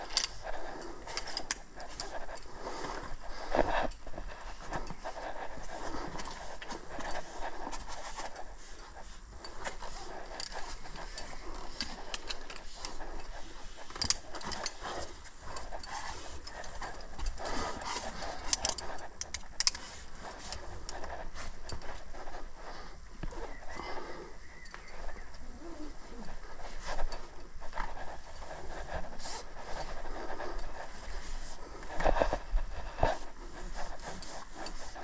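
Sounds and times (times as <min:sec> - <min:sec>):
metal climbing gear clinking: 0:00.0 - 0:35.0.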